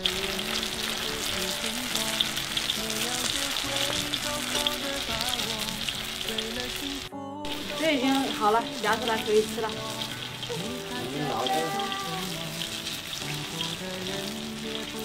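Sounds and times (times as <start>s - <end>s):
oil sizzling in a wok: 0.0s - 15.0s
soft instrumental music: 0.0s - 15.0s.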